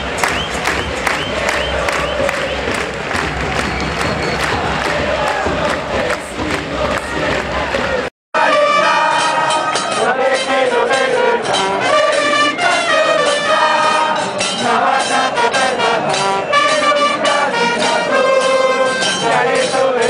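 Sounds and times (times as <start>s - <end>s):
trumpets playing a chant melody: 0.0s - 20.0s.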